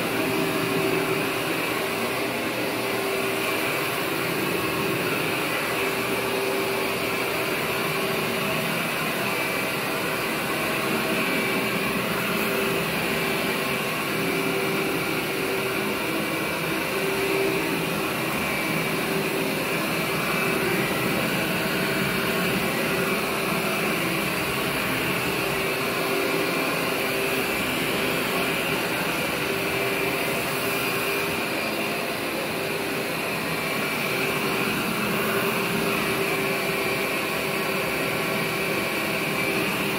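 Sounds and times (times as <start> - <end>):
upright vacuum running: 0.0 - 39.9.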